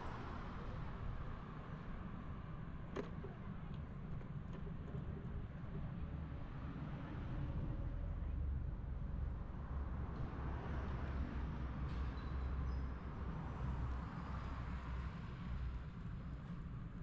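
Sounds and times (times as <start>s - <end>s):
train on steel viaduct: 0.0s - 17.0s.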